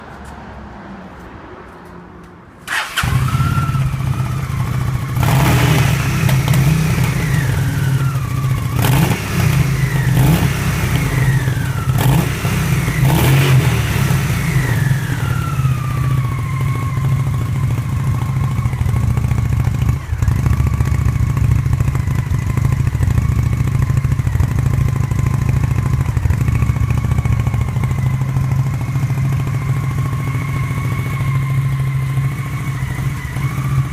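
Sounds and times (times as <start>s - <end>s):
motorcycle engine revving and idling: 2.7s - 33.9s.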